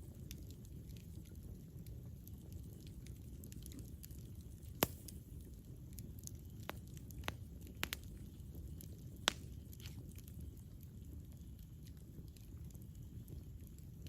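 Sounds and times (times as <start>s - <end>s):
fire flames rumbling: 0.0s - 14.0s
wood crackling and popping: 0.0s - 14.0s.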